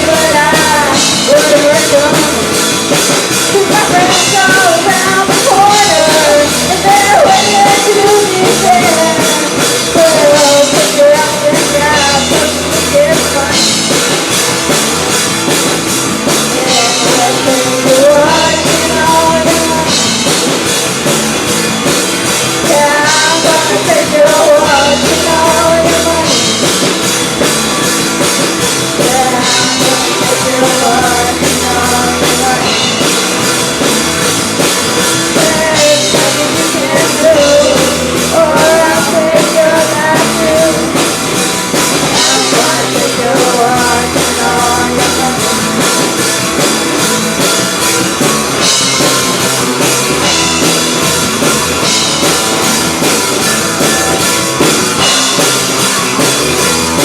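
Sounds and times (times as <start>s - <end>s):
person singing: 0.0s - 14.4s, 16.2s - 20.7s, 22.4s - 47.5s, 50.2s - 55.7s
rock band playing live: 0.0s - 57.0s.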